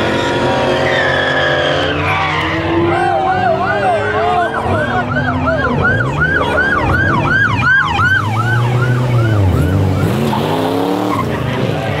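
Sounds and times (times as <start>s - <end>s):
police siren yelping: 0.2s - 11.8s.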